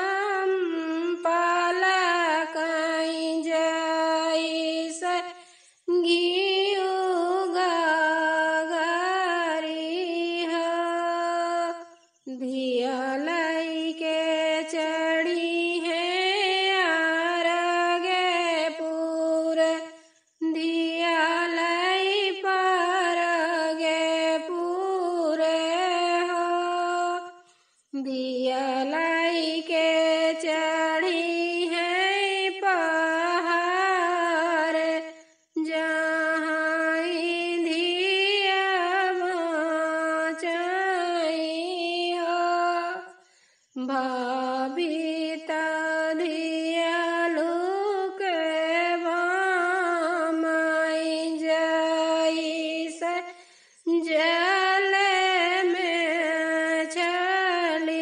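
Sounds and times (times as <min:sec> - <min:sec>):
woman singing unaccompanied: 0:00.0 - 0:58.0.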